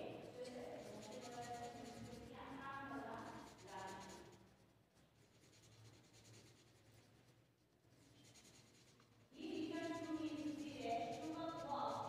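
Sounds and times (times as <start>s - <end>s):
crayon scratching on paper: 0.0s - 12.0s.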